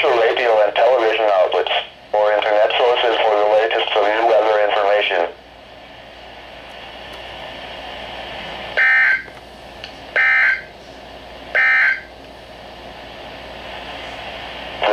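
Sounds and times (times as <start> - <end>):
radio hiss: 0.0 - 14.9.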